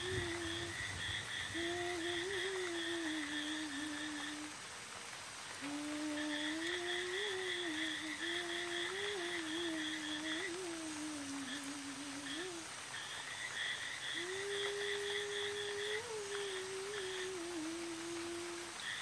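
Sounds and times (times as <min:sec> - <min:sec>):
person humming: 0:00.0 - 0:00.8, 0:01.5 - 0:04.6, 0:05.6 - 0:12.8, 0:14.1 - 0:18.9.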